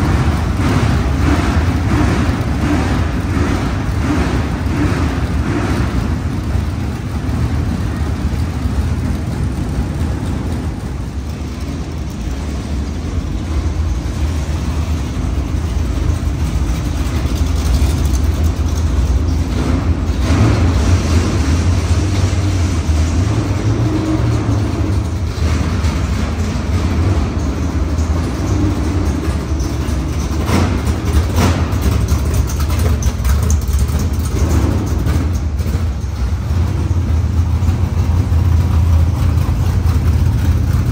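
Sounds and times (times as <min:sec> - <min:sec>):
race car engine at low revs: 0:00.0 - 0:40.9.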